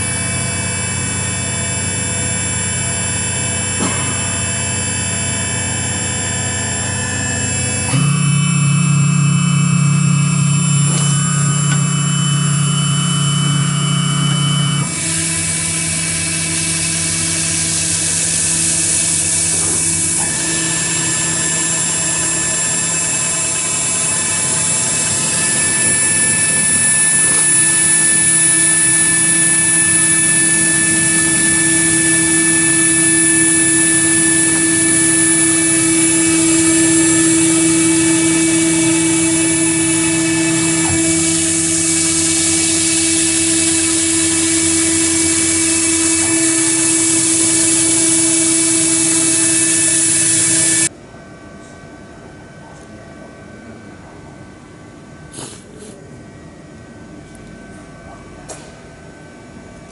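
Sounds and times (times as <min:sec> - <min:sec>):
motors humming held tones: 0:00.0 - 0:50.9
router spindle whine: 0:00.0 - 0:51.3.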